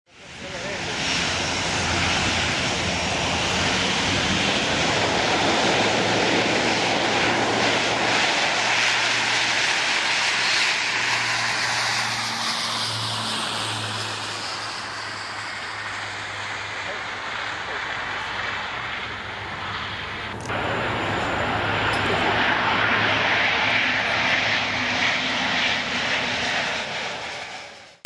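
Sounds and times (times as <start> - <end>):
aircraft engines rushing: 0.1 - 28.0
engine whine gliding down: 0.1 - 28.0.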